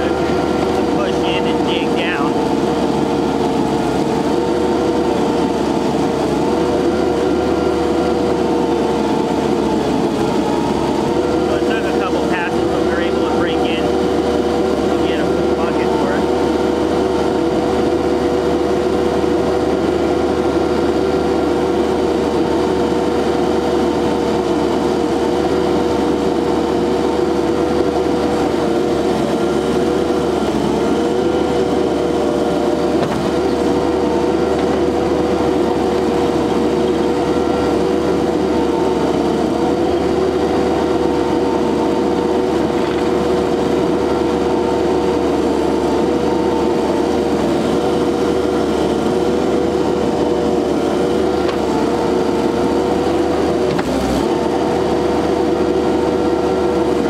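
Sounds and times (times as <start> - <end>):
loader engine running: 0.0 - 57.0
steady mechanical whine: 0.0 - 57.0.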